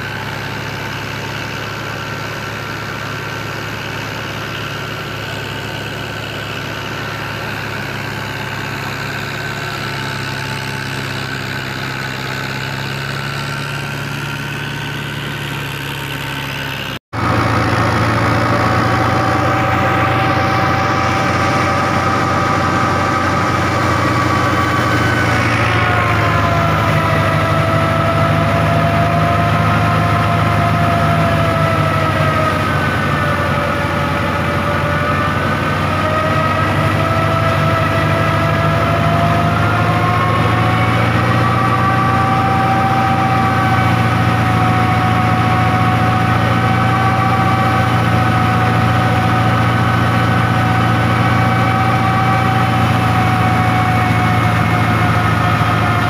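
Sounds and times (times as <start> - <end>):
thresher high whine: 0.0 - 56.0
tractor engine running: 0.0 - 56.0.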